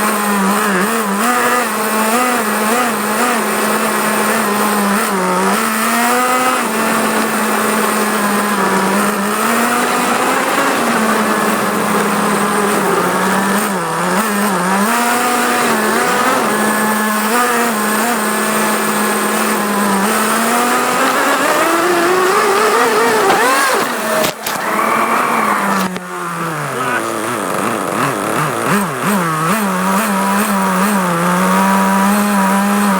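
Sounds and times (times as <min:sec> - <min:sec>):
toy car motor whining: 0:00.0 - 0:32.9.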